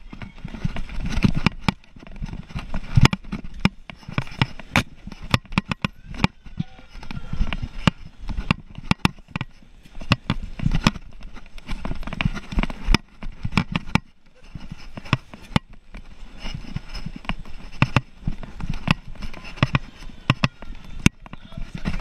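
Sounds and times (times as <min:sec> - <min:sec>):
sharp clicks and knocks: 0:00.0 - 0:22.0.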